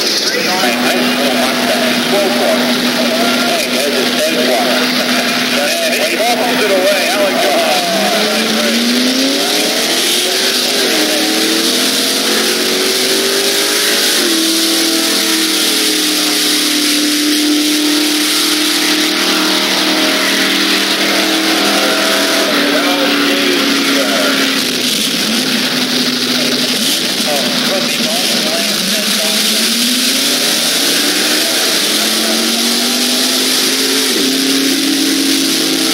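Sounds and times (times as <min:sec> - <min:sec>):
racing car engine at full throttle: 0:00.0 - 0:35.9.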